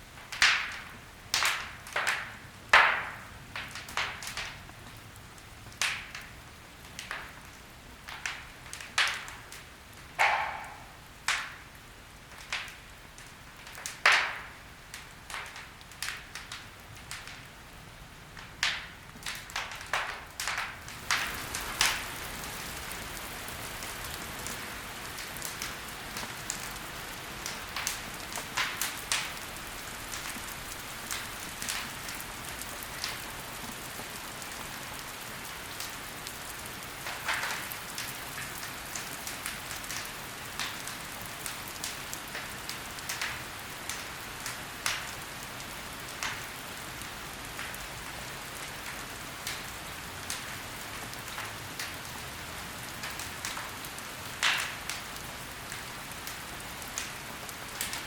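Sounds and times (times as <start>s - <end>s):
fire crackles and pops: 0.0s - 58.0s
soft fire hiss: 0.0s - 58.0s.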